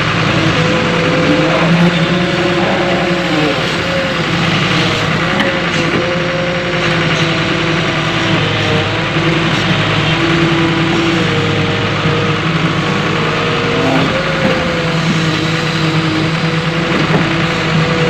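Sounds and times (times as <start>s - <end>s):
excavator diesel engine: 0.0s - 18.0s
hydraulic whine: 0.0s - 18.0s.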